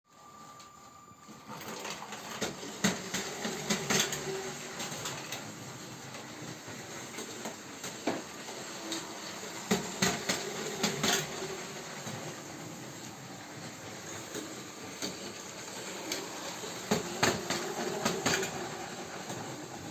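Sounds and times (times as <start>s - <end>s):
toy train running on plastic track: 0.2s - 19.9s.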